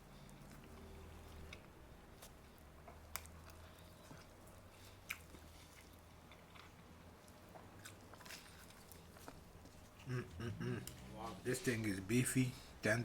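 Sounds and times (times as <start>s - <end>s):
person chewing sandwich: 0.0s - 11.1s.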